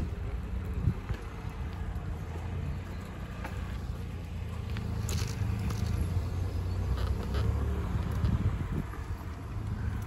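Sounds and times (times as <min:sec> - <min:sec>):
bicycle rolling over paving: 0:00.0 - 0:10.0.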